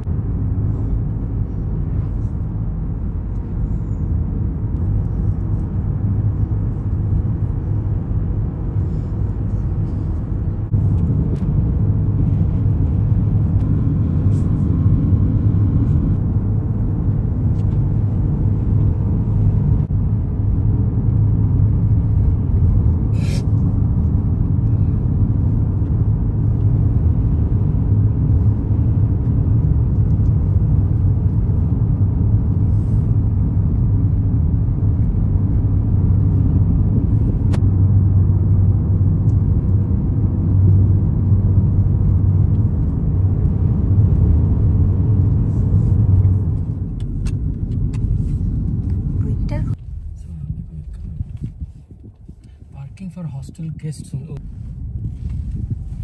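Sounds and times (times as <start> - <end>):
car interior road rumble: 0.0 - 56.0.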